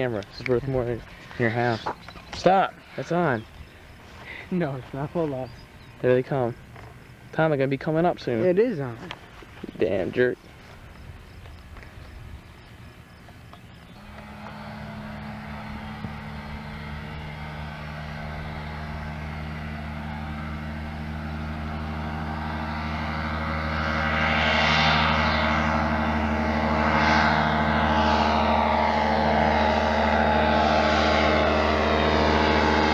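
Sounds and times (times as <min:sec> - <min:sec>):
ultralight aircraft engine drone: 0:00.0 - 0:32.9.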